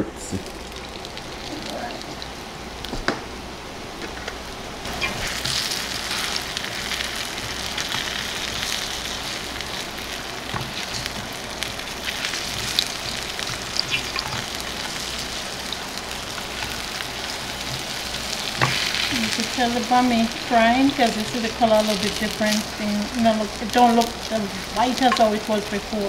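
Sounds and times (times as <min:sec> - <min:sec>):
flatbread sizzling in oil: 0:00.4 - 0:26.0.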